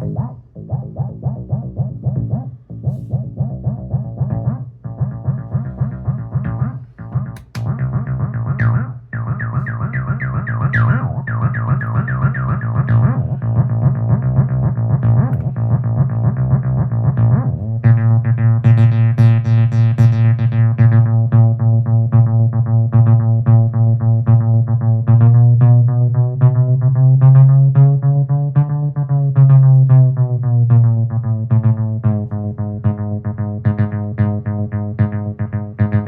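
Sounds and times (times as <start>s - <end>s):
acid bass synth sequence: 0.0s - 36.0s.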